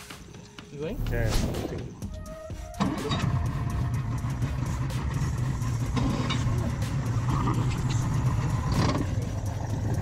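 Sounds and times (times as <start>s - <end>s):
outboard motors humming: 0.2s - 10.0s.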